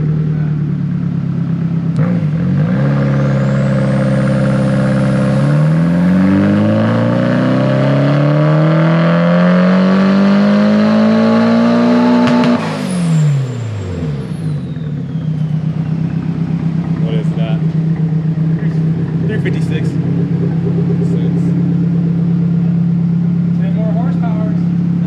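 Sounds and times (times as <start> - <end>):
turbocharged engine revving: 0.0 - 25.0.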